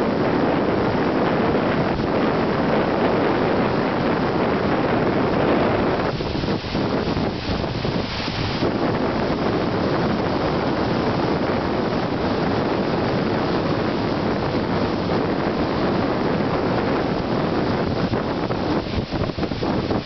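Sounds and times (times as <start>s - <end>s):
water noise from moving boat: 0.0s - 20.0s
wind buffeting microphone: 0.0s - 20.0s.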